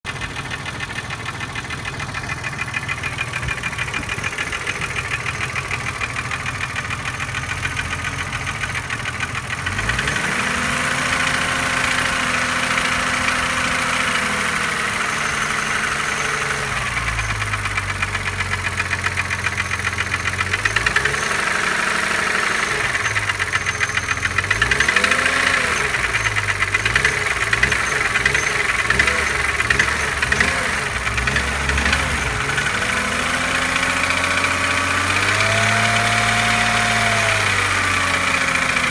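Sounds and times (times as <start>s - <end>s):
car engine idling and revving: 0.0s - 38.9s
fast engine ticking: 0.0s - 38.9s.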